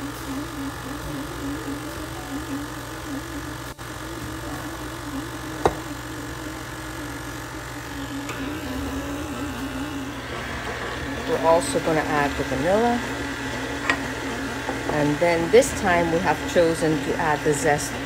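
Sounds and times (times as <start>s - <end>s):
stand mixer motor humming: 0.0s - 18.0s.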